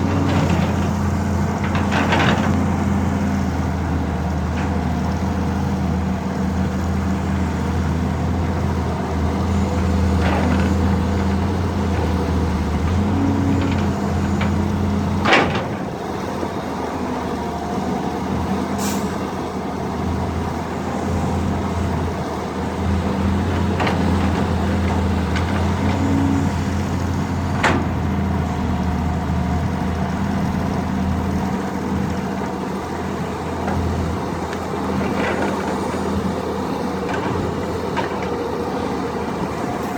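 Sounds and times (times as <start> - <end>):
excavator diesel engines droning: 0.0 - 39.9.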